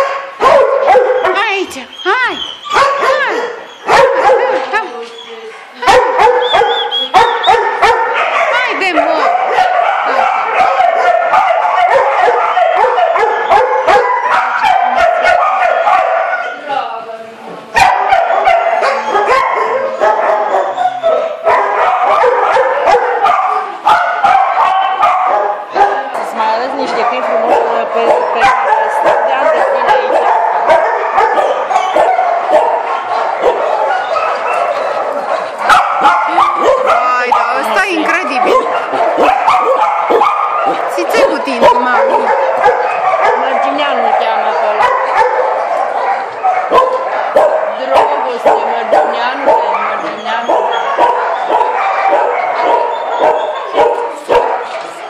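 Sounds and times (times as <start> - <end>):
dogs barking: 0.0 - 16.8, 17.7 - 55.0.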